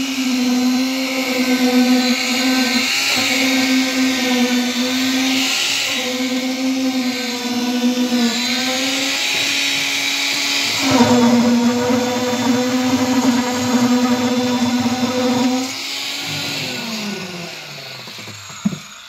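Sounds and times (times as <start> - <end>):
concrete vibrator humming and whining: 0.0 - 17.8.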